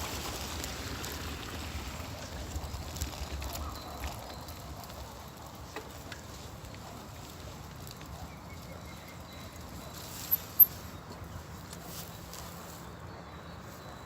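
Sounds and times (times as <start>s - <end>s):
bicycle rolling noise: 0.0s - 13.0s.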